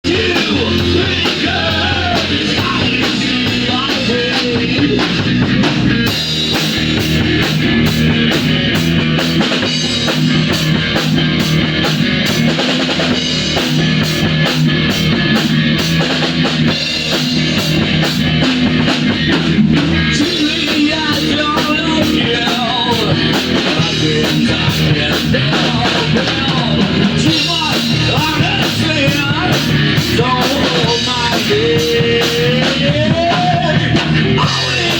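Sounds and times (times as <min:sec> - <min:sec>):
bass guitar: 0:00.0 - 0:34.9
drum kit with steady cymbal beat: 0:00.0 - 0:34.9
guitar: 0:00.0 - 0:34.9.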